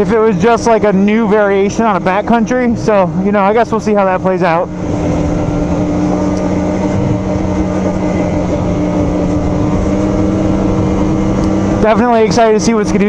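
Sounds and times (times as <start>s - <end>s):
snowmobile engine droning: 0.0s - 13.0s.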